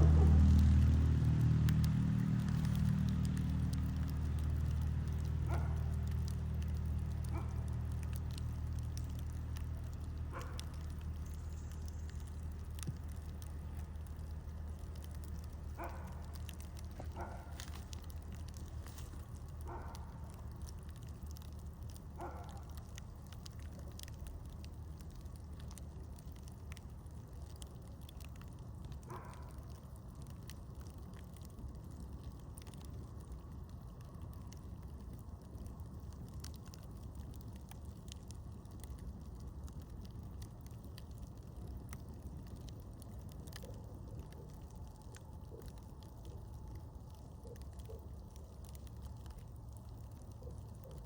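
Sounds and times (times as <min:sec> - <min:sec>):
low fire rumble: 0:00.0 - 0:51.0
wood crackling and popping: 0:00.0 - 0:51.0.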